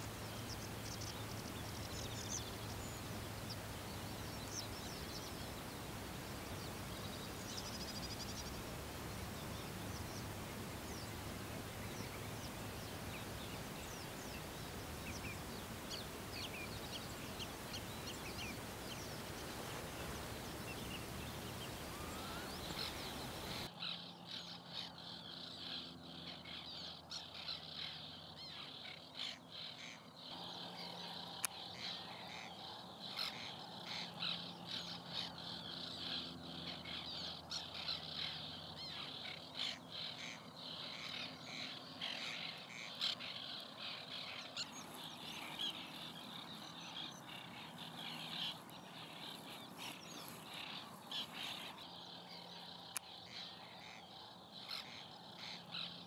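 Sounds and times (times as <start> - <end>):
faint bird chirps: 0.0 - 56.0
steady outdoor hiss: 0.0 - 56.0.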